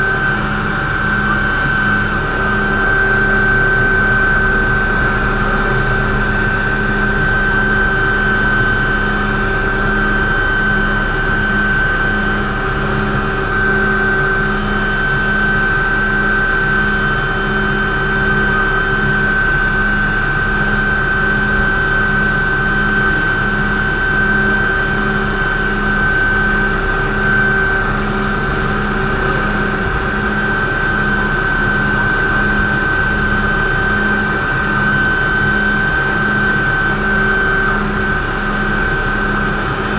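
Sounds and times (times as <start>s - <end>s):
helicopter rotor drone: 0.0s - 39.9s
helicopter turbine whine: 0.0s - 39.9s.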